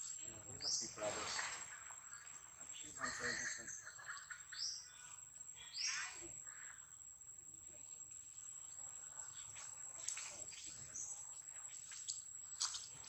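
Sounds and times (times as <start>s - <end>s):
thin steady high whine: 0.0s - 13.0s.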